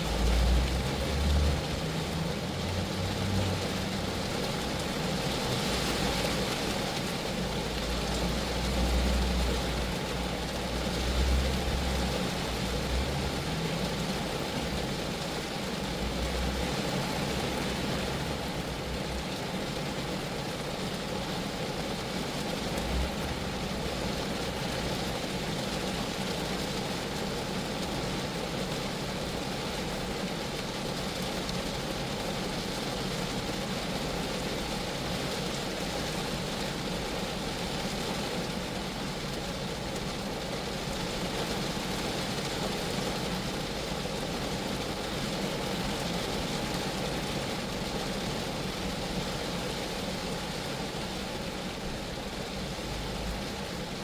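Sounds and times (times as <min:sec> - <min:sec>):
rain on a car body: 0:00.0 - 0:54.0.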